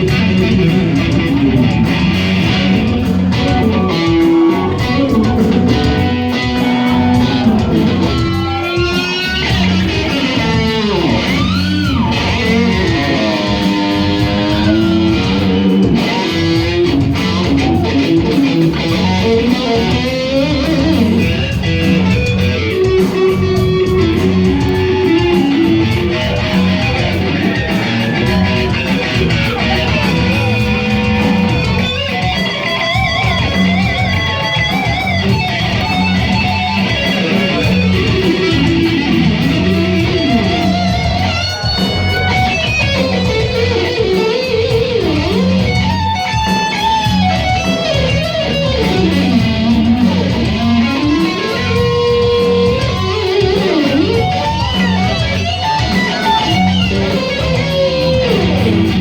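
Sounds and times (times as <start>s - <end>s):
bass guitar: 0.0s - 59.0s
drums: 0.0s - 59.0s
electric guitar lead with bends: 0.0s - 59.0s.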